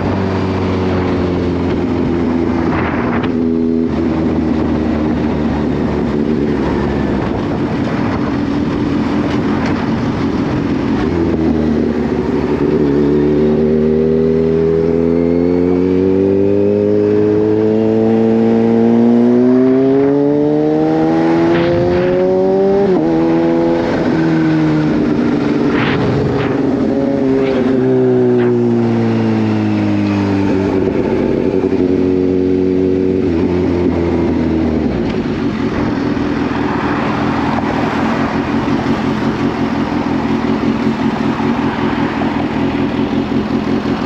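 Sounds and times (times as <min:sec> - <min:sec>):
wind noise: 0:00.0 - 0:40.6
motorcycle engine accelerating: 0:00.0 - 0:44.0.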